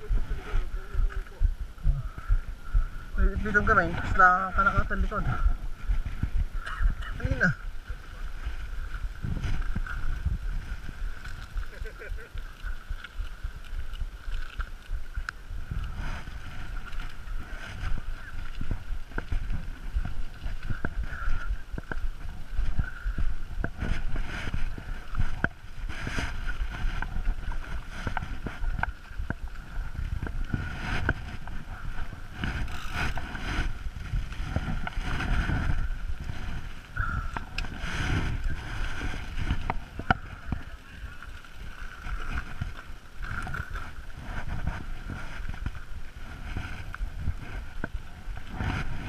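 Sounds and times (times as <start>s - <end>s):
wind rumbling on microphone: 0.0s - 49.0s.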